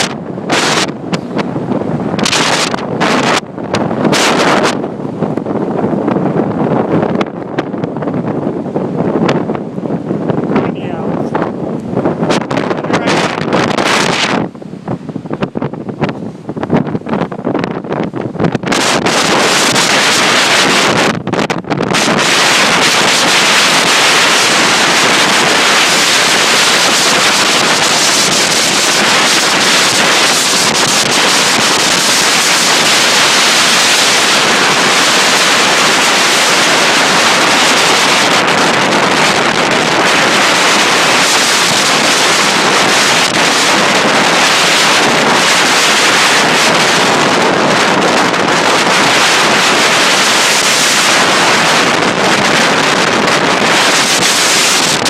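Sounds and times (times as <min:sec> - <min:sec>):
huge waves breaking: 0:00.0 - 0:55.0
storm wind buffeting microphone: 0:00.0 - 0:55.0.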